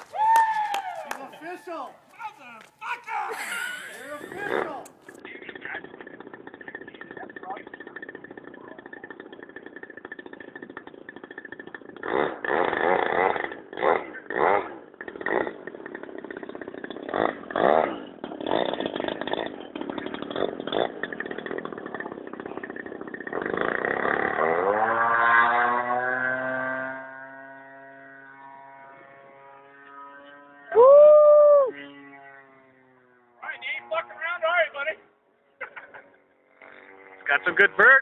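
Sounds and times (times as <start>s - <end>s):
model plane engine revving: 3.3s - 30.8s, 31.5s - 34.4s, 35.6s - 38.0s.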